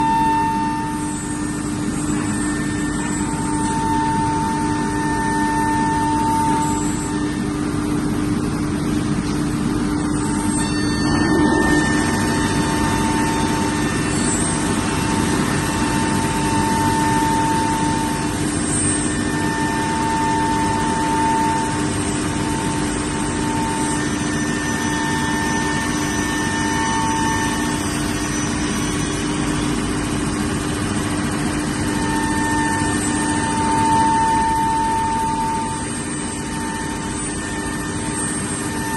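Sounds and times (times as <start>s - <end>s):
cnc router humming: 0.0s - 38.9s
higher machine tone: 0.0s - 38.9s.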